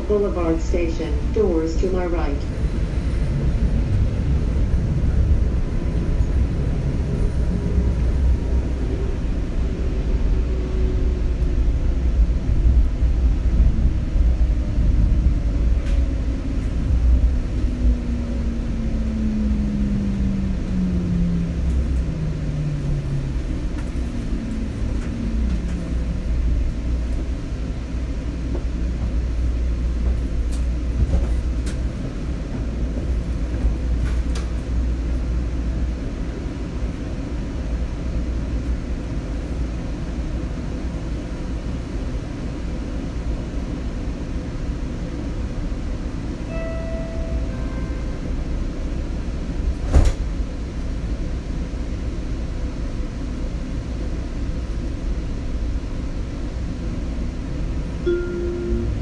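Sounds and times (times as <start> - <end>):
train heavy low rumble: 0.0 - 59.0.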